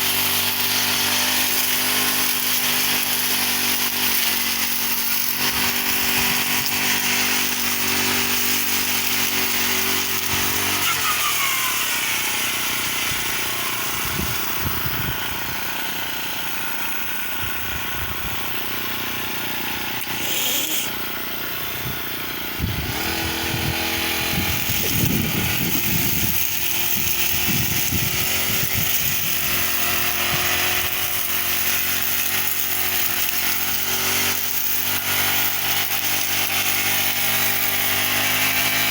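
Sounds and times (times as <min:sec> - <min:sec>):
brush cutter cutting grass: 0:00.0 - 0:38.9.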